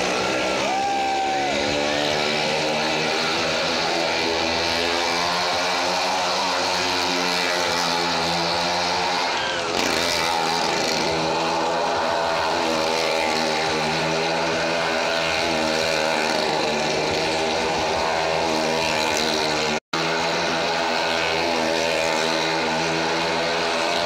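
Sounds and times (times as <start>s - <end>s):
engine at high revs: 0.0s - 24.0s.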